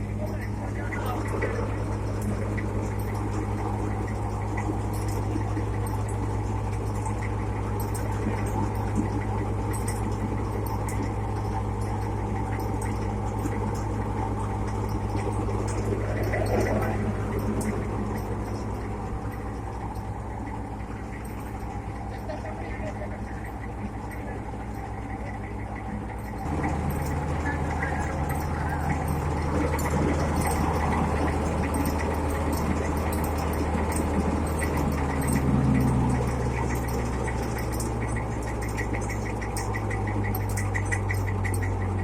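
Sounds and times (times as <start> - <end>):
faint irregular ticking: 0.0 - 42.0
tractor engine humming: 0.0 - 42.0.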